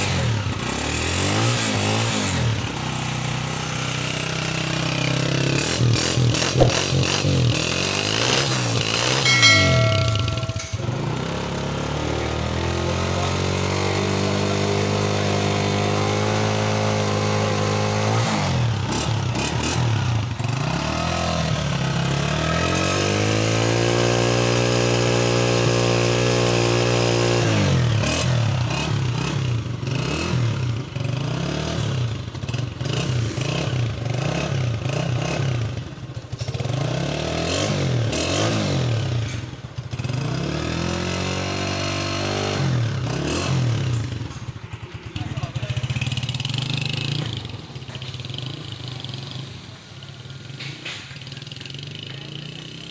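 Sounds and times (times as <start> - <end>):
motorcycle engine revving: 0.0 - 9.3, 11.8 - 50.5.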